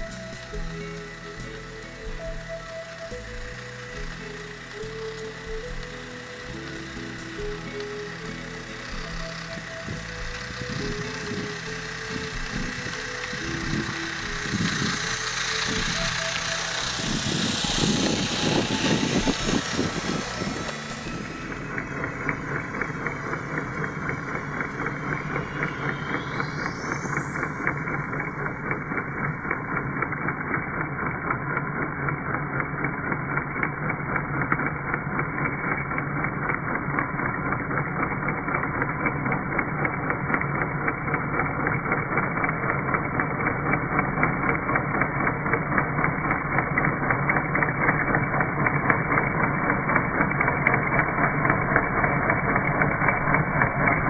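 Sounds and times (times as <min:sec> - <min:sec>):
track sweeper motor whirring: 0:00.0 - 0:54.0.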